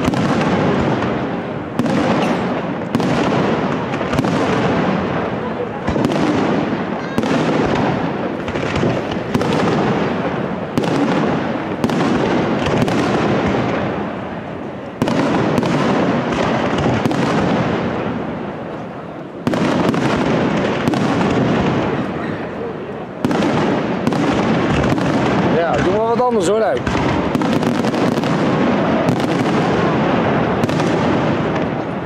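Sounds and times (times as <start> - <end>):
fireworks launching and bursting: 0.0 - 32.0.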